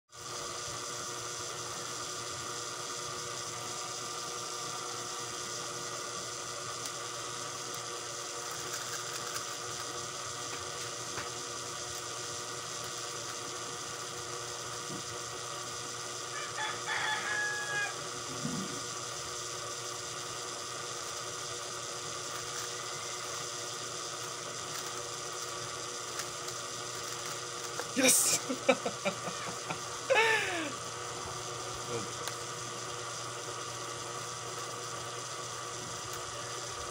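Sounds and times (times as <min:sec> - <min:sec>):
electrical hum: 0:00.2 - 0:36.9.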